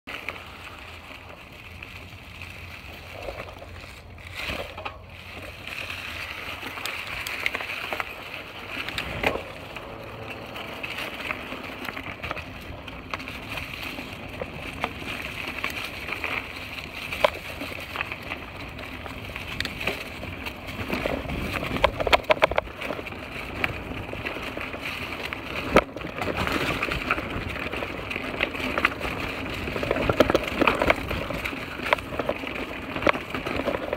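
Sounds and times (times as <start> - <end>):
bike rattling over roots: 0.1 - 33.9
tyres crunching on leaves: 0.1 - 33.9.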